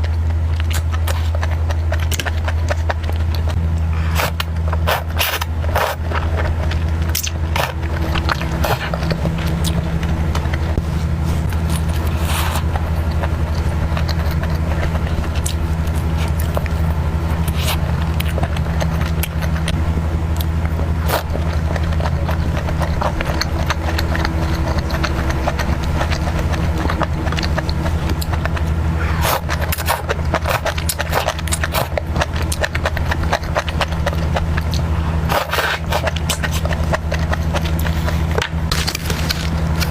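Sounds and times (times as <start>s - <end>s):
chewing and crunching: 0.0s - 39.9s
steady low hum: 0.0s - 39.9s.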